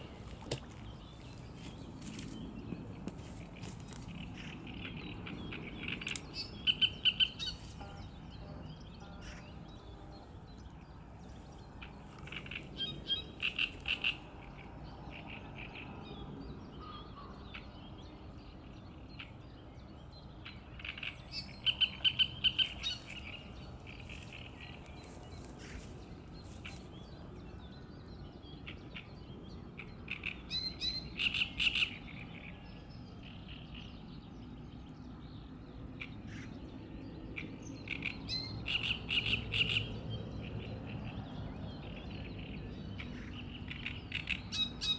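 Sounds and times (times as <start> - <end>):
songbird singing rapid notes: 0.0 - 16.0, 18.9 - 35.2, 35.8 - 44.9.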